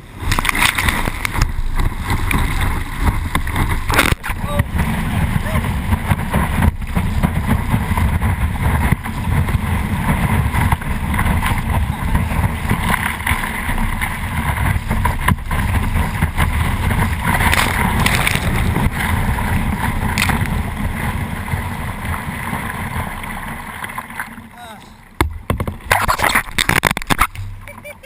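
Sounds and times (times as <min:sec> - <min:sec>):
wind buffeting microphone: 0:00.0 - 0:23.2
rushing surf water: 0:00.0 - 0:28.0.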